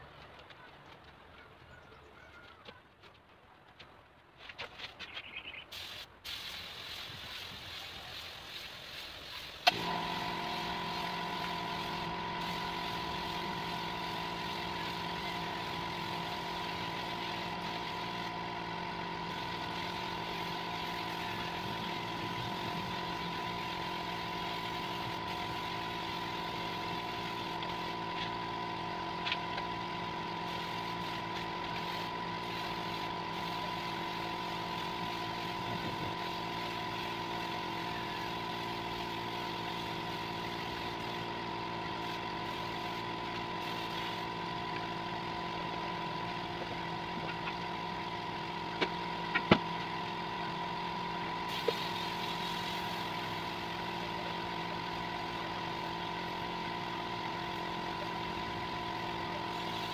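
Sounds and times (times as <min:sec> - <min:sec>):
air compressor running: 0:05.7 - 0:59.9
spray gun spraying paint: 0:05.7 - 0:59.9.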